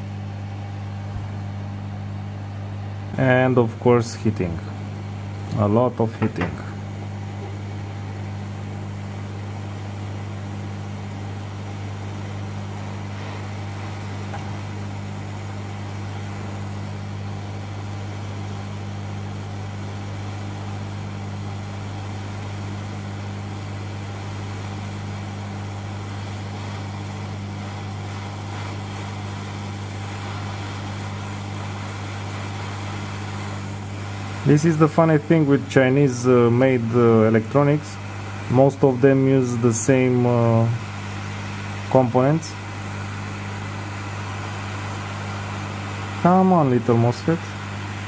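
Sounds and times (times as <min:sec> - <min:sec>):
hot air station blowing: 0:00.0 - 0:48.0.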